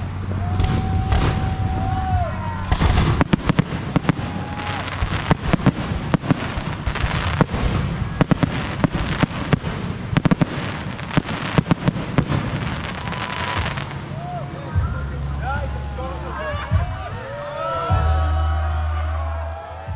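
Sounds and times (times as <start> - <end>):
firework bangs and crackling: 0.0 - 17.4.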